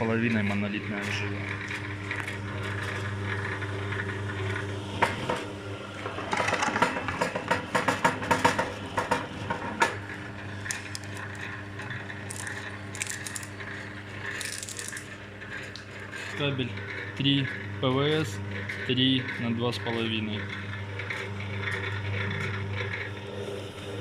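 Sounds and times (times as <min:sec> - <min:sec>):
motor and gearbox hum: 0:00.0 - 0:24.0.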